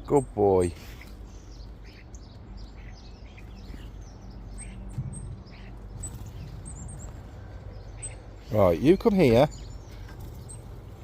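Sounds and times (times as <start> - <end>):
birds chirping: 0.0 - 11.0
low steady hum: 0.0 - 11.0.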